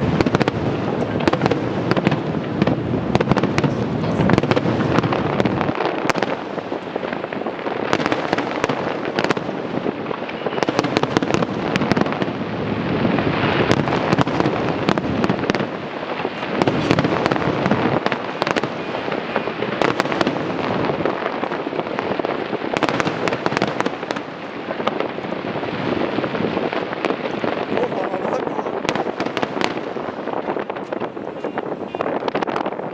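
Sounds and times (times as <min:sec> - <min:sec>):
fireworks bursting: 0:00.0 - 0:32.9
fireworks crackling: 0:00.0 - 0:32.9.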